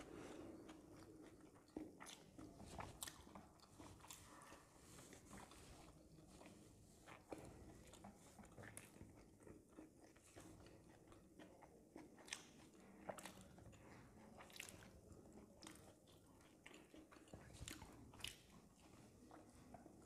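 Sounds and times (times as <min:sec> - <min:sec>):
faint chewing and biting: 0:00.0 - 0:20.0.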